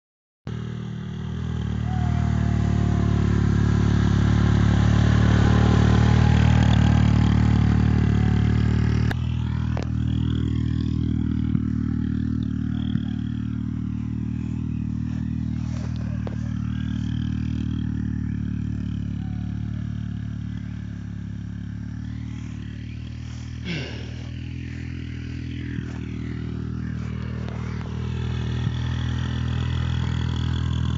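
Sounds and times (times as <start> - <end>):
small engine humming: 0.5 - 30.9.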